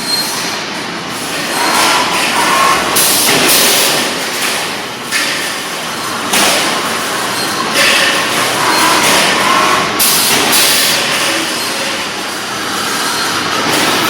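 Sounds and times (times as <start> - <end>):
roll-forming machine running: 0.6 - 14.0.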